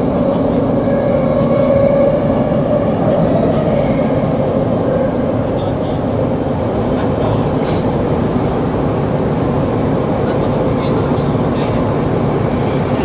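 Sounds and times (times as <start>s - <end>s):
subway car wheels rumbling: 0.0s - 13.0s.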